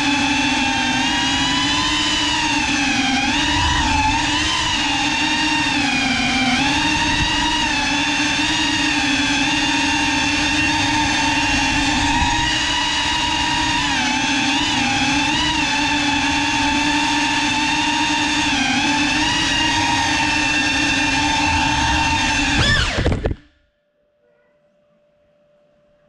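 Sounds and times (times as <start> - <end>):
drone motors whining: 0.0 - 23.6.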